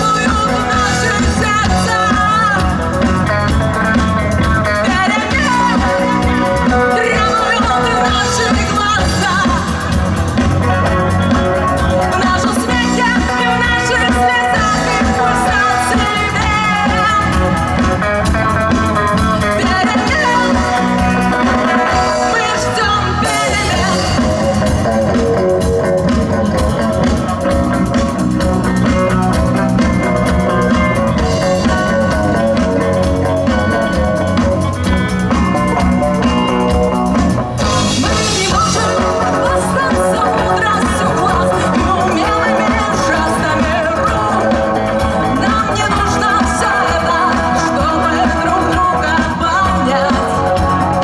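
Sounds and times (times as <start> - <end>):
rock band playing live: 0.0 - 51.0.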